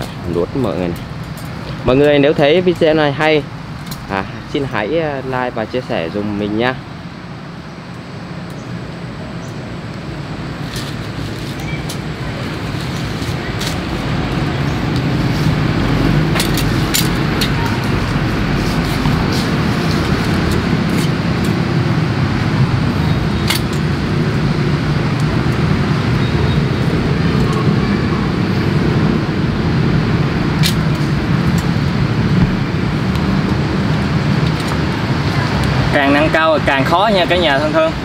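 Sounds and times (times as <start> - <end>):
low rumbling background noise: 0.0 - 38.0.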